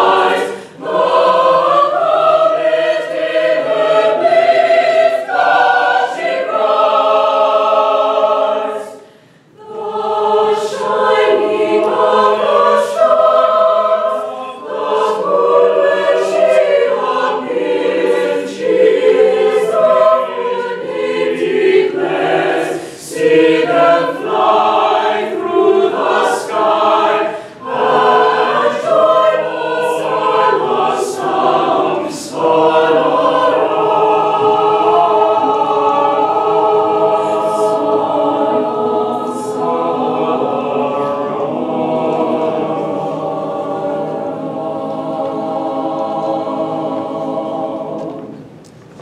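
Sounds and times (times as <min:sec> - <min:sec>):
mixed choir singing: 0:00.0 - 0:49.0.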